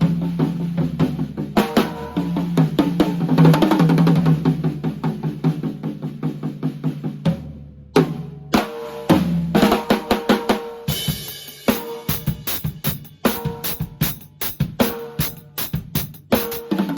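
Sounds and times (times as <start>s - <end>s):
drum kit playing: 0.0s - 16.9s.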